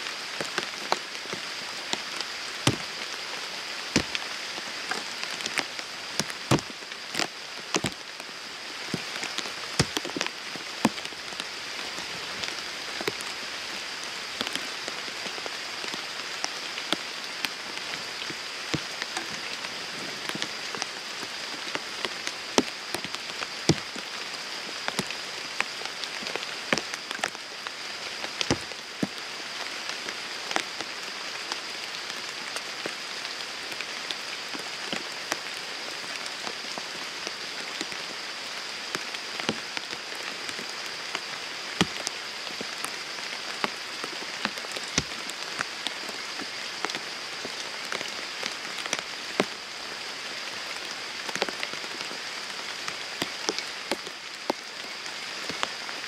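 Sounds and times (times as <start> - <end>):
rain on pond and foliage: 0.0 - 56.0.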